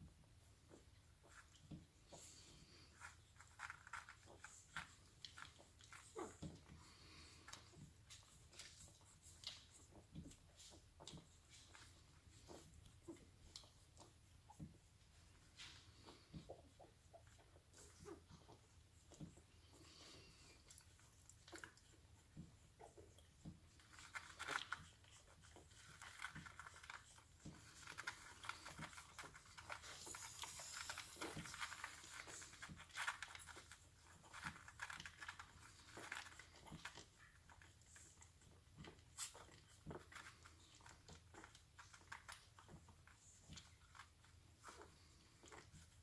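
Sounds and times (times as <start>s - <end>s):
puppies suckling wet clicks: 0.0s - 46.0s
soft rustling: 0.0s - 46.0s.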